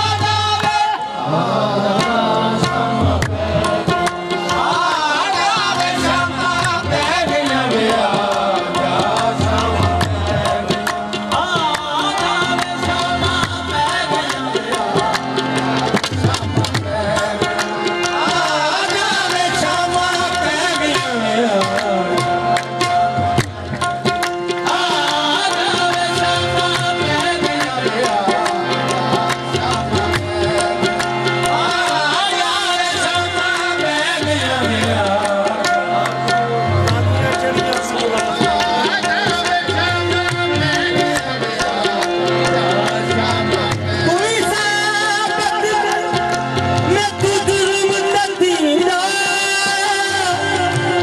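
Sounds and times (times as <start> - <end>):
harmonium: 0.0 - 51.0
tabla drumming: 0.0 - 51.0.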